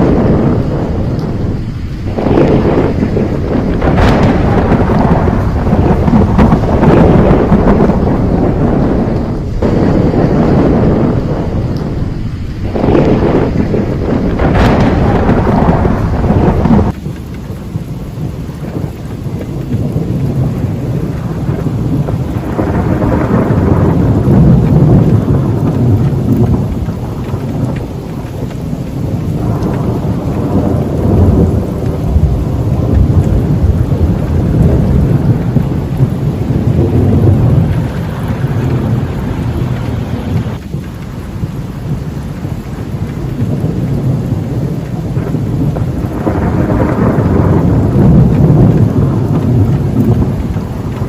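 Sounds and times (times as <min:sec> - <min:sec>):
steady rain: 0:00.0 - 0:51.0
thunder rumbling: 0:00.0 - 0:51.0.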